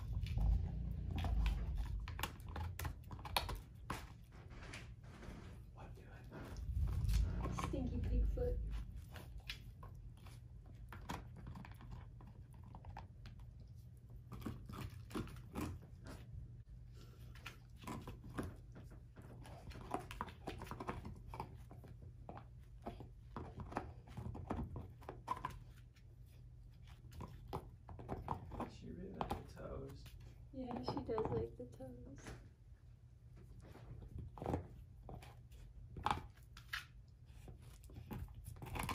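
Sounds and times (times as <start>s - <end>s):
dog gnawing and chewing bone: 0.0s - 31.8s, 33.0s - 38.9s.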